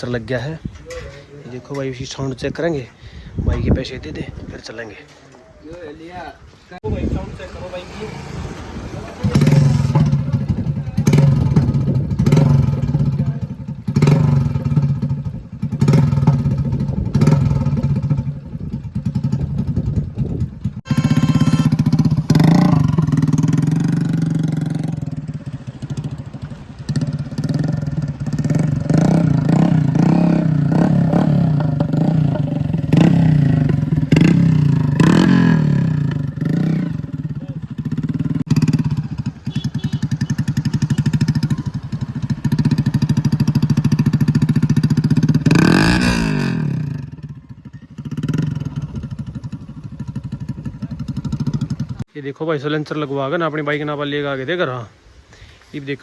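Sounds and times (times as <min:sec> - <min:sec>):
motorcycle engine revving: 0:06.9 - 0:52.1.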